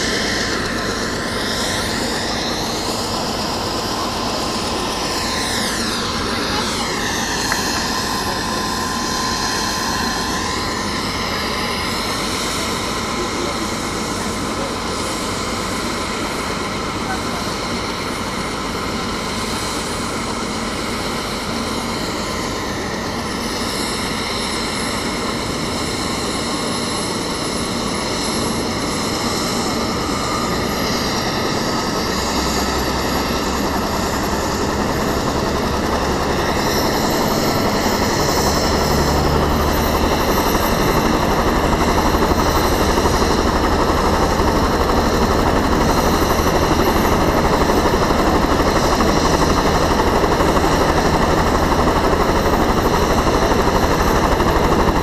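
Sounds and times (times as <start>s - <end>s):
helicopter rotor beat: 0.0s - 55.0s
helicopter turbine whine: 0.0s - 55.0s.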